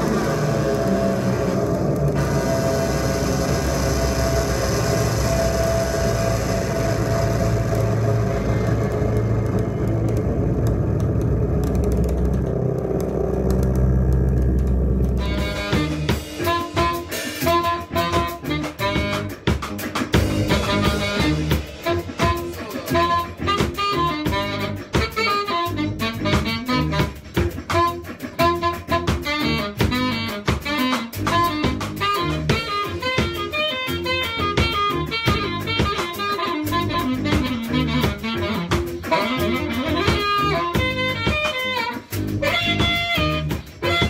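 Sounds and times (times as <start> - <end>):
drum kit: 0.0 - 44.0
electronic drone with heavy bass: 0.0 - 44.0
saxophone: 0.0 - 44.0.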